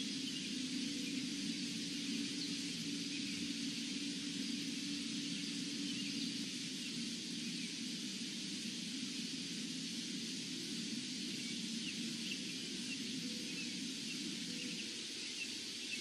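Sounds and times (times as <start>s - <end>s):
constant hiss: 0.0s - 16.0s.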